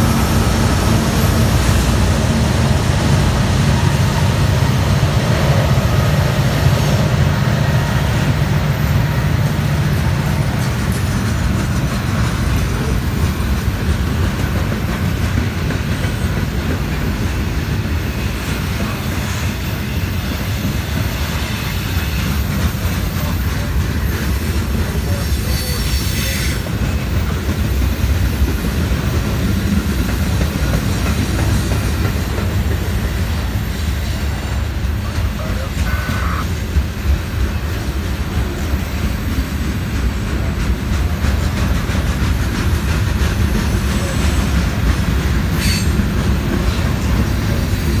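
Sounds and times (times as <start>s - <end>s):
freight train rolling on rails: 0.0s - 48.0s.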